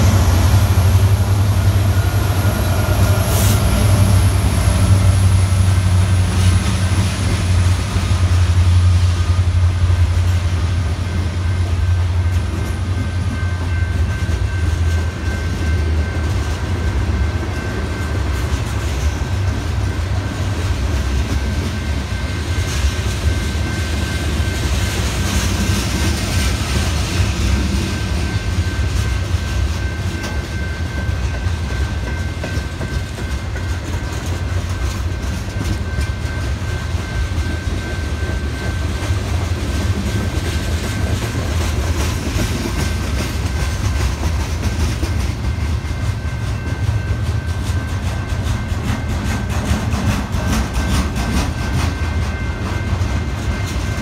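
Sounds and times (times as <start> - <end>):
train wheels clacking on rails: 0.0 - 54.0.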